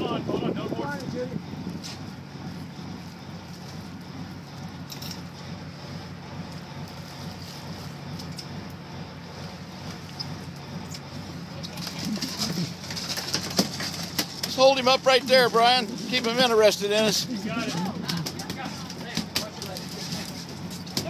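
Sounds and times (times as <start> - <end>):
boat engine idling: 0.0 - 21.0
wind: 0.0 - 21.0.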